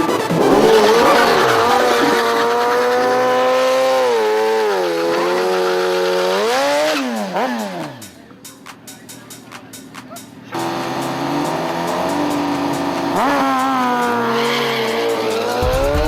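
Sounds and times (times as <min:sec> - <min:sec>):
motorcycle engine at high revs: 0:00.0 - 0:08.4, 0:10.3 - 0:16.0.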